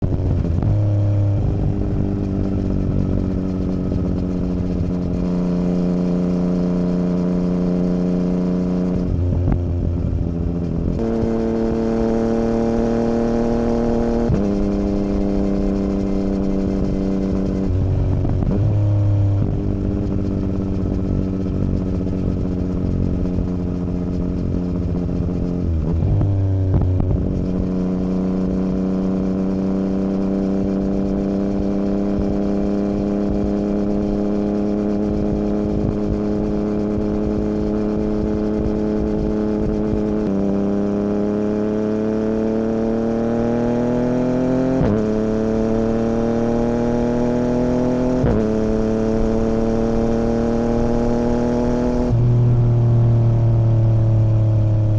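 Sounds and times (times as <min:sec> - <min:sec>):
gear change: 0:00.0 - 0:52.3
loud motorcycle engine revving: 0:00.0 - 0:52.7.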